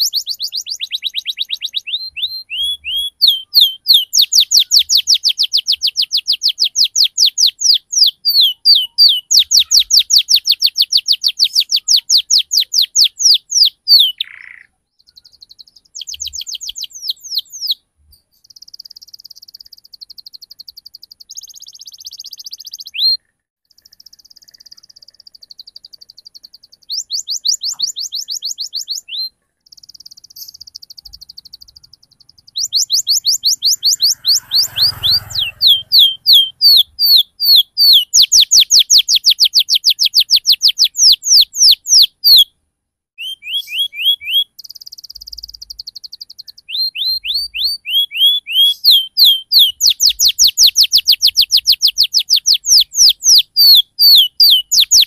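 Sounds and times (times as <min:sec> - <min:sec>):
canary singing rapid trills: 0:00.0 - 0:42.6, 0:43.2 - 0:55.0.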